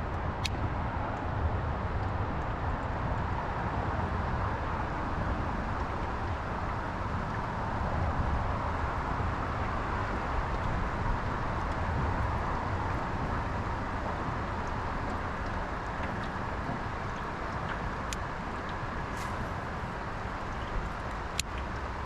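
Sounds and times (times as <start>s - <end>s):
water and wind noise: 0.0s - 22.0s.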